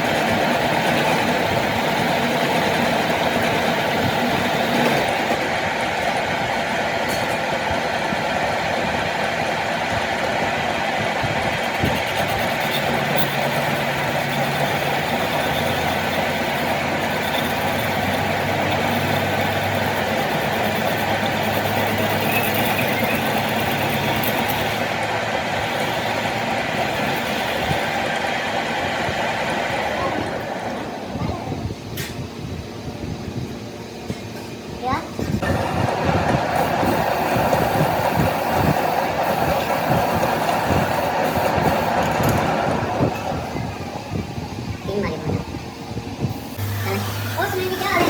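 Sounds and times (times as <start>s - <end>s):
machine running steadily: 0.0s - 48.0s.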